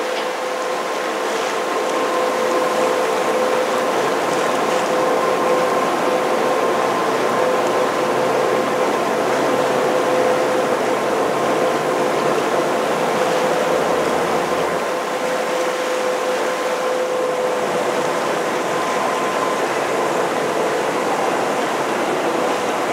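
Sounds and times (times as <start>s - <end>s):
boat engine running: 0.0s - 22.9s
water and air rushing: 0.0s - 22.9s.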